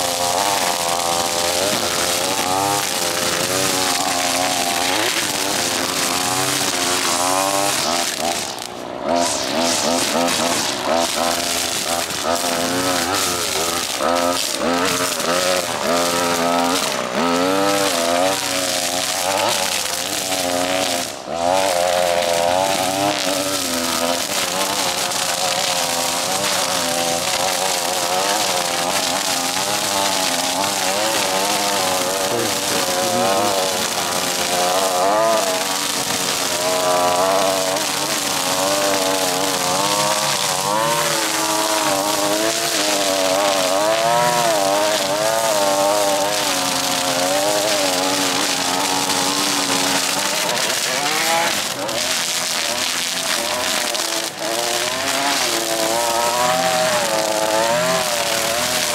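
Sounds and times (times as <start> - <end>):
string trimmer cutting grass: 0.0 - 58.9.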